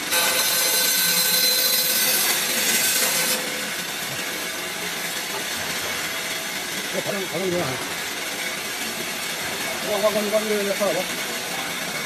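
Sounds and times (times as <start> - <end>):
band saw cutting metal: 0.0 - 12.0.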